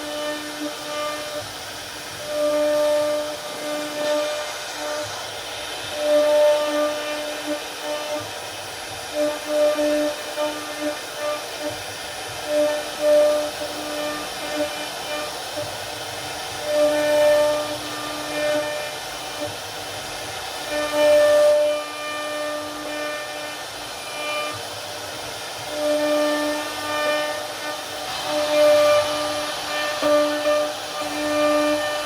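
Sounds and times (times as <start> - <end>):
router spindle whining carving wood: 0.0 - 32.0.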